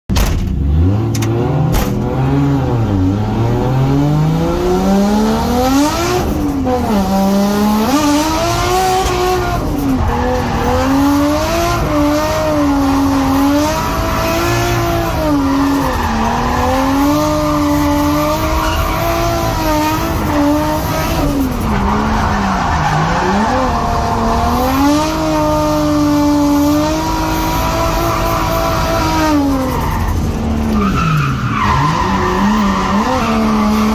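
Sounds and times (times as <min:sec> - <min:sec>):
car engine revving hard: 0:00.6 - 0:33.9.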